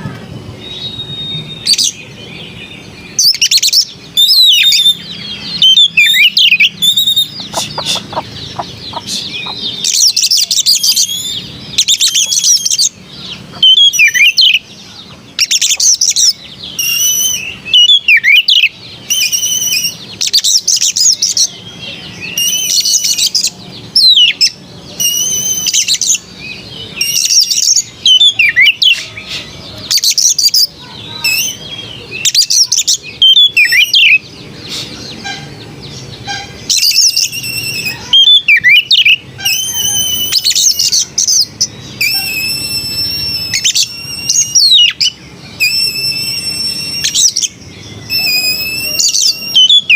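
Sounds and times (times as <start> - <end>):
bird singing whistled phrases: 0.6 - 14.7, 15.4 - 35.4, 36.3 - 49.9.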